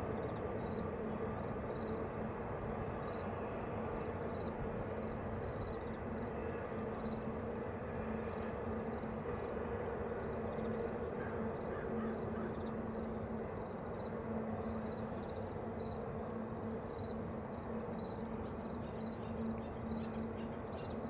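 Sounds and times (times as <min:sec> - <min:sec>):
distant freight train rumbling: 0:00.0 - 0:21.0.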